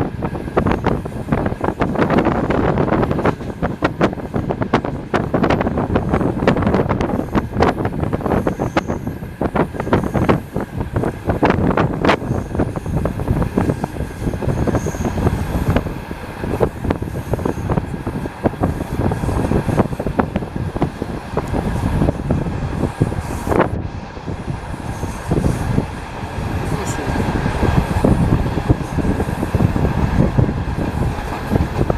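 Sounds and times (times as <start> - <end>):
train carriage rumble: 0.0 - 31.9.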